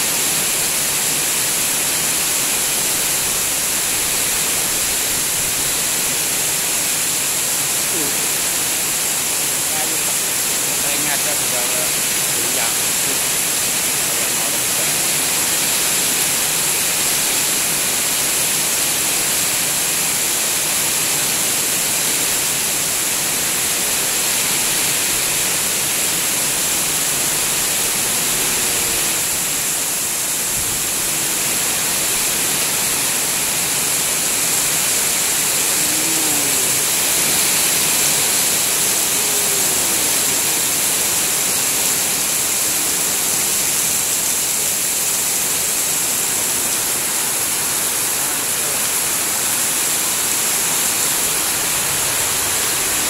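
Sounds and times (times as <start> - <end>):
heavy rain on a metal roof: 0.0 - 53.0.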